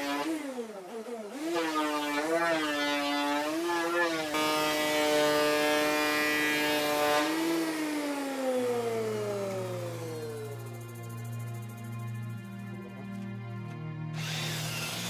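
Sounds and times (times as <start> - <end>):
electric planer whine: 0.0 - 15.0.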